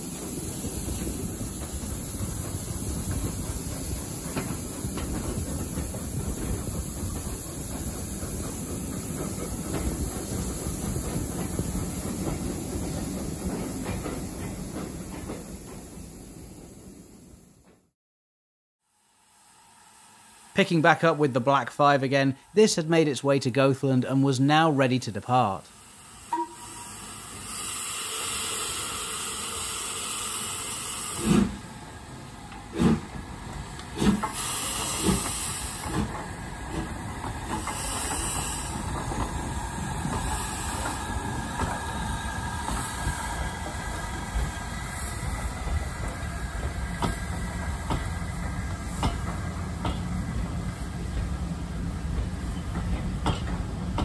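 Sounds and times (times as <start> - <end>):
steam locomotive exhaust chuffing: 0.0 - 17.2, 25.8 - 54.0
steam hissing: 0.0 - 17.3, 25.7 - 54.0.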